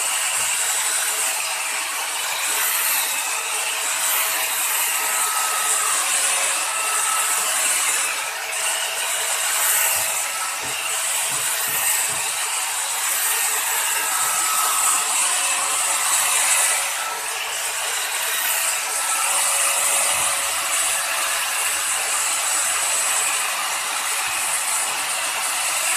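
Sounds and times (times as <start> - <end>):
angle grinder grinding steel: 0.0 - 25.9.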